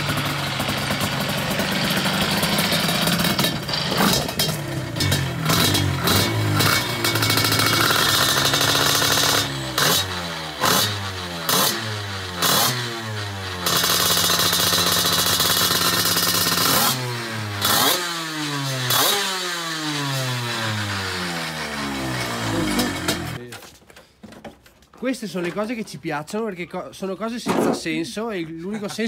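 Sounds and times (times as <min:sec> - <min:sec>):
two-stroke scooter engine revving: 0:00.0 - 0:23.4.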